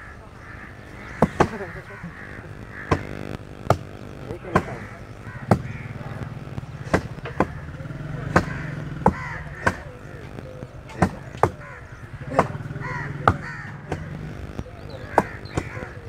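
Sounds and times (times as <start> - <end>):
crows cawing: 0.0 - 16.0.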